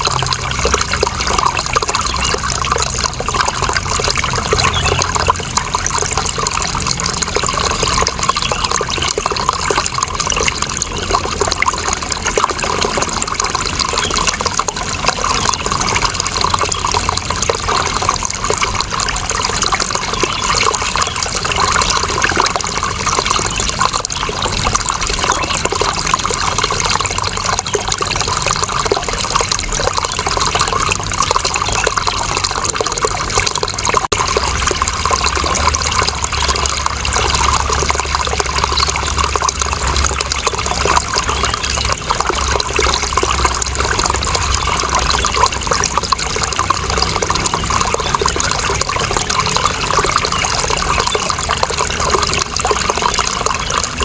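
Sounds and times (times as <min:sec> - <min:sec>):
running water trickling: 0:00.0 - 0:54.0.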